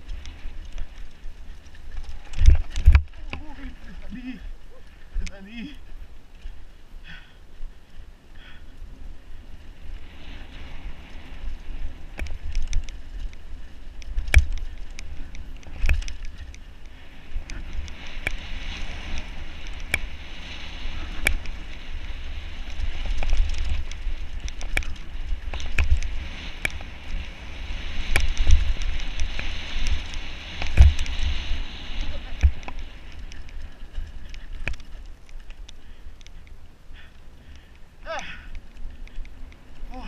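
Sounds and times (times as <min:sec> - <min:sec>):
bike rattling over bumps: 0:00.0 - 0:40.0
wind rumbling on microphone: 0:00.0 - 0:40.0.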